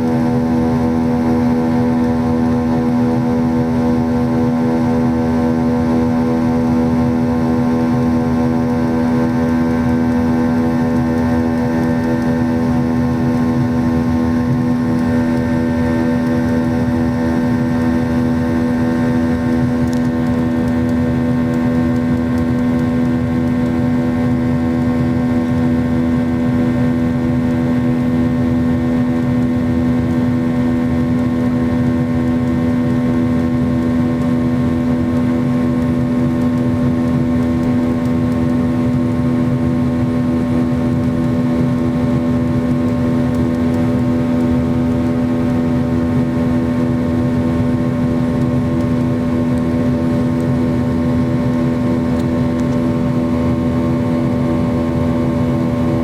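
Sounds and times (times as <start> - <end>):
jet engine cabin drone: 0.0 - 56.0.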